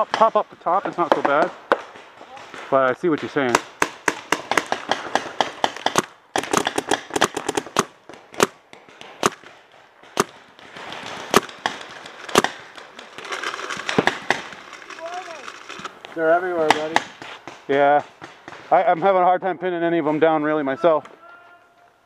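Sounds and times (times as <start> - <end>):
paintball markers firing: 0.0 - 15.9, 16.5 - 18.8.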